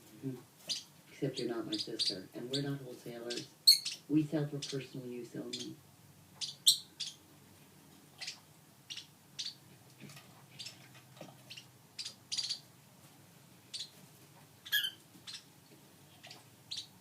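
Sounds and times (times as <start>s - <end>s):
faint low hum: 0.0s - 17.0s
lovebirds chirping: 0.6s - 7.3s, 8.1s - 12.8s, 13.6s - 14.0s, 14.6s - 17.0s.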